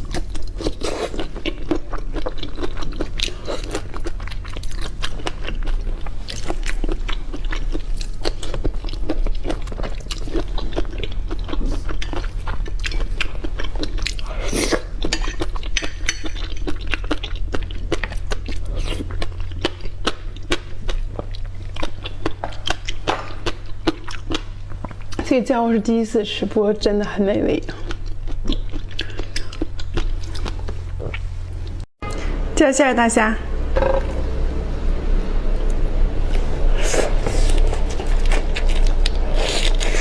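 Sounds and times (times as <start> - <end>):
wet chewing crunches: 0.0 - 25.3, 27.6 - 31.9, 37.0 - 40.0
low electrical hum: 0.0 - 40.0.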